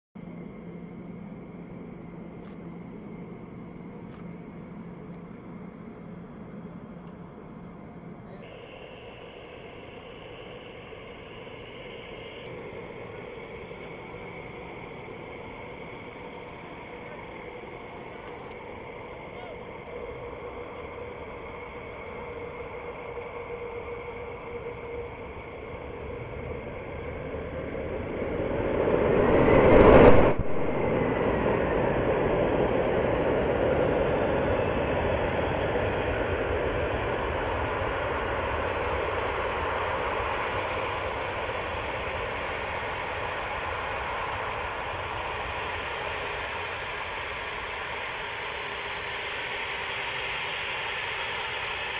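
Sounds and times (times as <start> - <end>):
distant jet engines rushing: 0.2 - 51.9.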